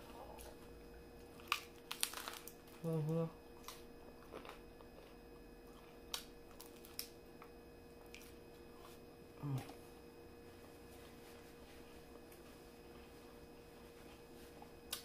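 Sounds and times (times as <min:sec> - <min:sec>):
taco being chewed: 0:00.0 - 0:03.0, 0:03.6 - 0:09.8, 0:11.8 - 0:15.0
closed-mouth hum: 0:02.5 - 0:15.0.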